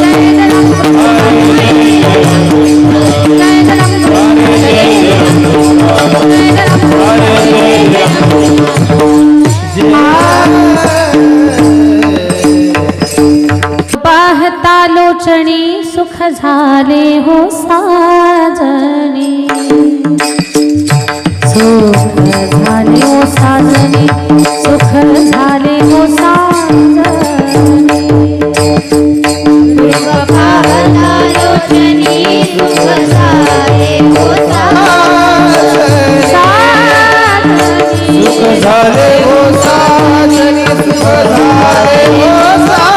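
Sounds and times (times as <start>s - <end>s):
woman singing: 0.0s - 12.2s, 13.9s - 20.0s, 21.5s - 28.8s, 29.7s - 42.9s
drum strokes: 0.0s - 14.1s, 19.5s - 42.9s.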